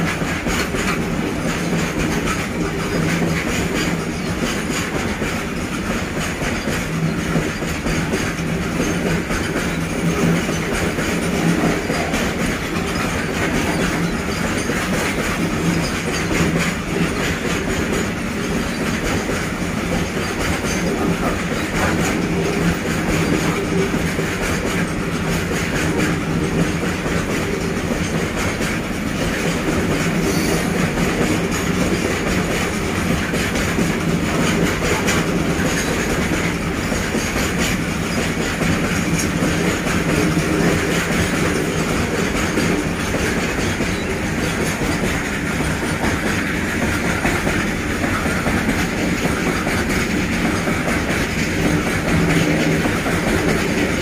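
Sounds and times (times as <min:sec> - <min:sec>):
clatter over rail joints: 0:00.0 - 0:54.0
steel wheels rumbling on rails: 0:00.0 - 0:54.0.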